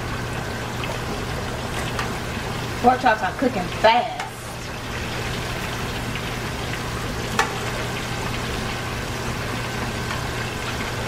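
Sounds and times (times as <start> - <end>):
oil bubbling and sizzling: 0.0 - 11.0.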